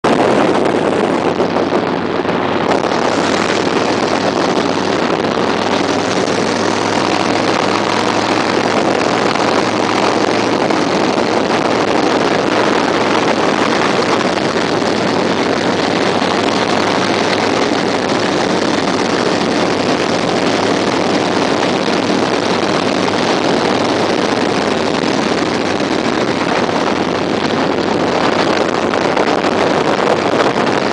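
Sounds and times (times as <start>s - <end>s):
motorcycle engines running: 0.0s - 30.9s
wind rushing over microphone: 0.0s - 30.9s.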